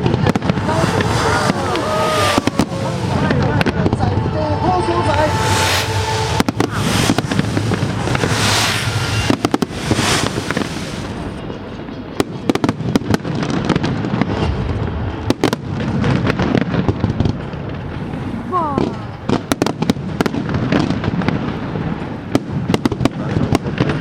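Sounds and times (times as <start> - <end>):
firework bangs and cracks: 0.0 - 4.2, 5.1 - 24.0.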